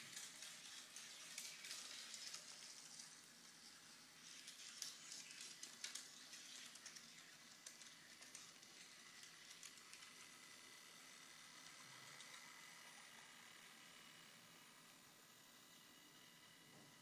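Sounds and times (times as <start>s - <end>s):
soft crackles and ticks: 0.0s - 14.8s.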